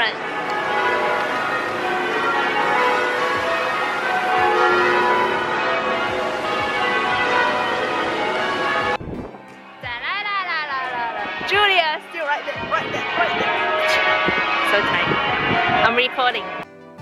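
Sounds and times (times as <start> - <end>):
tower bells change ringing: 0.0 - 9.0, 9.7 - 16.8.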